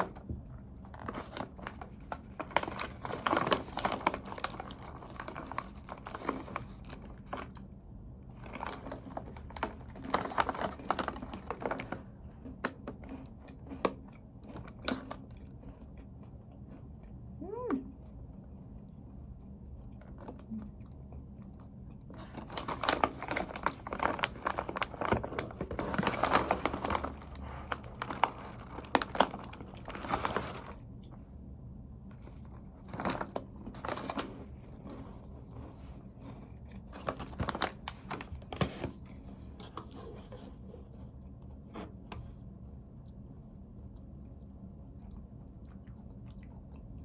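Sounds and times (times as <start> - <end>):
crunching and crackling: 0.0 - 17.0, 19.9 - 31.3, 32.1 - 42.3.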